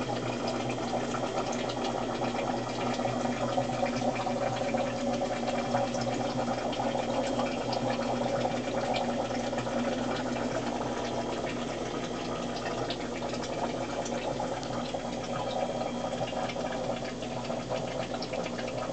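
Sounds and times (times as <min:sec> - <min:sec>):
air pump humming: 0:00.0 - 0:18.9
water bubbling and trickling: 0:00.0 - 0:18.9.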